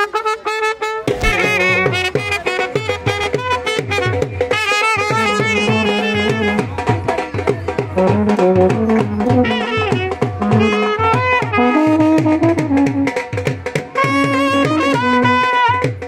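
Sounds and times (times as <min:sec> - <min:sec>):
brass band playing: 0:00.0 - 0:07.2, 0:07.8 - 0:16.0
quick drum beat: 0:01.1 - 0:16.0.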